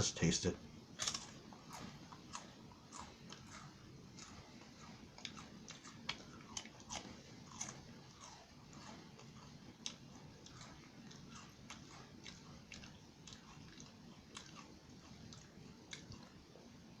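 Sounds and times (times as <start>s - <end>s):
person chewing crunchy cracker: 1.0s - 16.7s.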